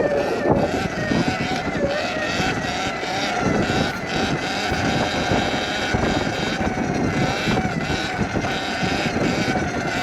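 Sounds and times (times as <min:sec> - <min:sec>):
electric motor whine: 0:00.0 - 0:10.0
wind and tyre rushing noise: 0:00.0 - 0:10.0.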